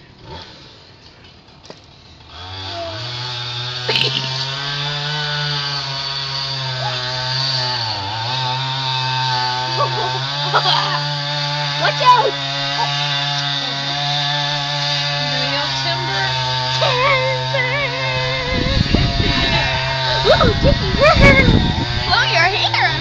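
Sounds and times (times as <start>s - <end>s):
chainsaw cutting at high revs: 0.0s - 1.1s, 1.8s - 23.0s.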